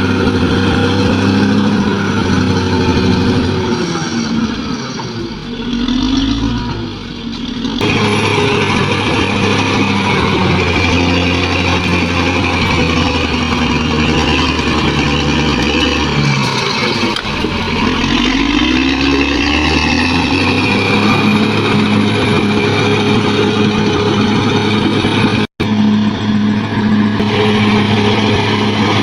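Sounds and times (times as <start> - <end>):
bulldozer diesel engine revving: 0.0 - 29.0.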